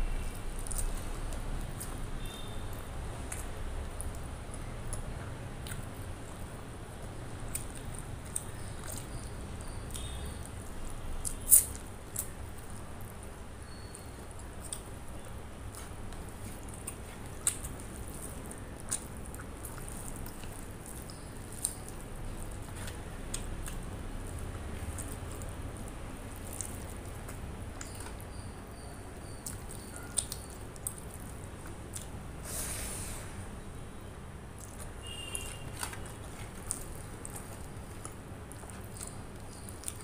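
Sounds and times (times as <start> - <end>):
low background hum: 0.0 - 40.0
chewing with wet clicks: 0.1 - 32.3, 34.5 - 40.0.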